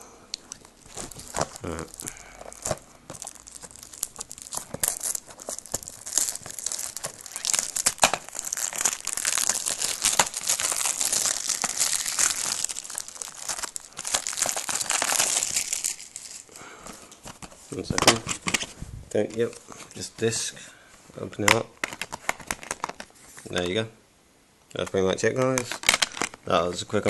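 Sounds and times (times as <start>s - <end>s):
cellophane crinkling and tearing: 0.4s - 18.8s, 21.4s - 23.2s, 25.2s - 27.0s.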